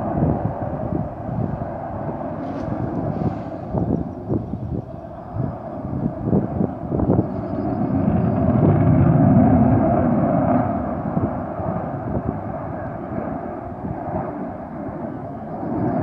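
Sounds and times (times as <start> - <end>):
jet engine roar: 0.0 - 16.0
wind buffeting microphone: 0.0 - 16.0.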